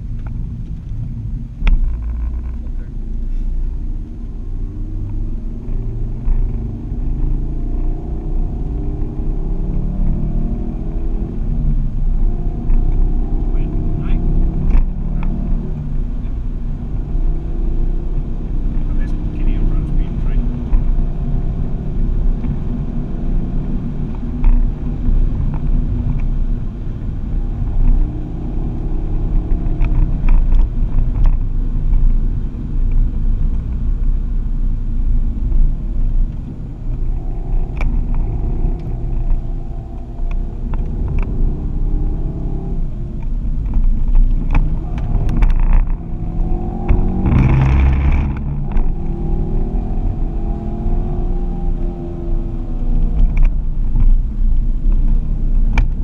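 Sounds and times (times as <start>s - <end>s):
road and tyre noise: 0.0s - 56.0s
car engine revving through gears: 3.8s - 34.0s, 35.2s - 56.0s.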